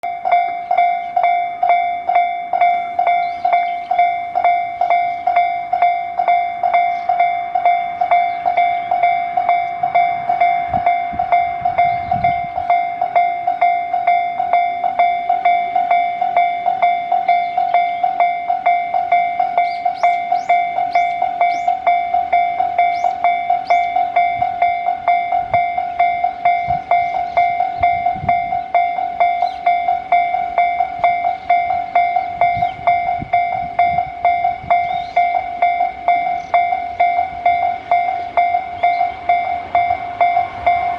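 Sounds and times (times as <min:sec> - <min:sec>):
level crossing warning bell: 0:00.0 - 0:40.9.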